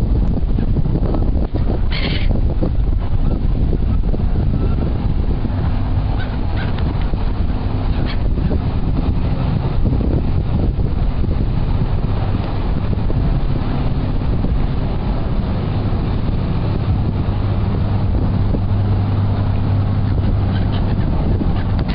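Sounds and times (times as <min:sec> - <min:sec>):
motor boat engine droning: 0:00.0 - 0:21.9
wind buffeting microphone: 0:00.0 - 0:21.9.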